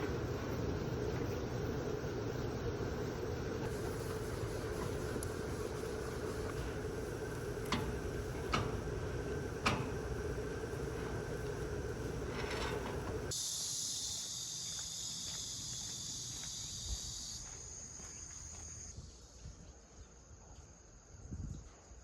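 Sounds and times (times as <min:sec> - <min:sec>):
crickets chirring chorus: 0:00.2 - 0:22.0.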